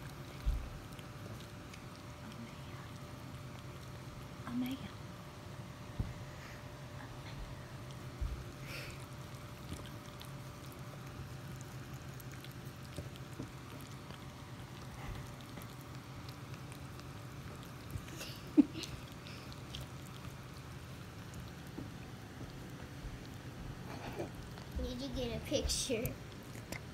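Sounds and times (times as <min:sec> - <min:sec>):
puppies licking: 0:00.0 - 0:26.9
steady low hum: 0:00.0 - 0:26.9.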